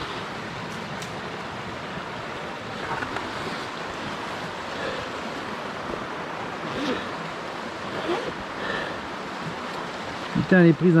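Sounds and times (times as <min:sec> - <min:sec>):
stream water rushing over stones: 0:00.0 - 0:11.0.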